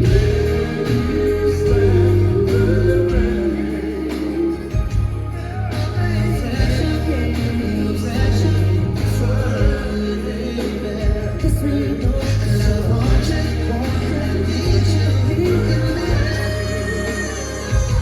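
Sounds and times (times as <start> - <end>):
live band playing: 0.0 - 18.0
man singing: 0.0 - 18.0.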